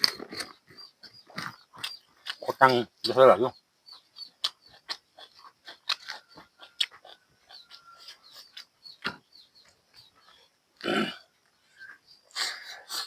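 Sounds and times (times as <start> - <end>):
wet chewing and smacking: 0.0 - 10.5.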